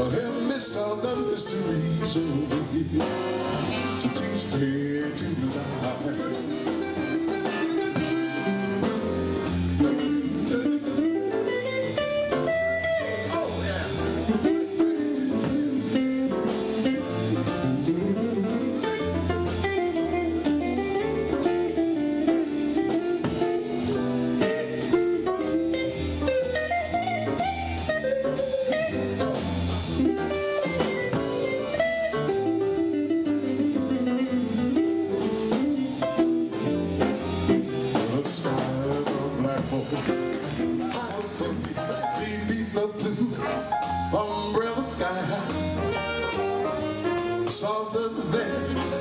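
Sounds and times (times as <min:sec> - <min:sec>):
bass: 0:00.0 - 0:49.0
drums: 0:00.0 - 0:49.0
guitar lead line: 0:00.0 - 0:49.0.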